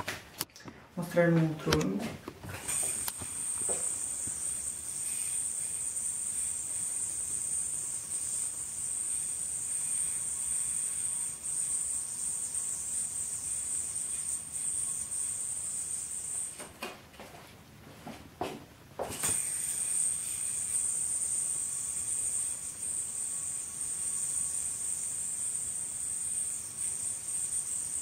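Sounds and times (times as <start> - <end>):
yoyo whirring: 2.5 - 16.7, 19.2 - 28.0.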